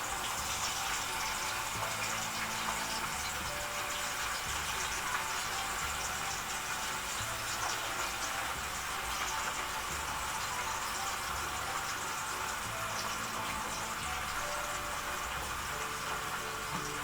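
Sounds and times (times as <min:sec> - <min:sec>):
potatoes sizzling in oil: 0:00.0 - 0:17.0.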